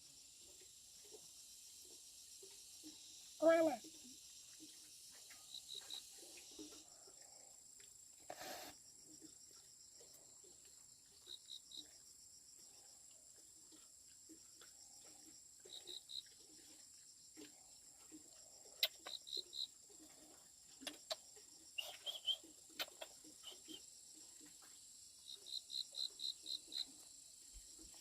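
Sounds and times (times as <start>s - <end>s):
insect chirps: 0.0s - 28.0s
insects droning: 0.0s - 28.0s.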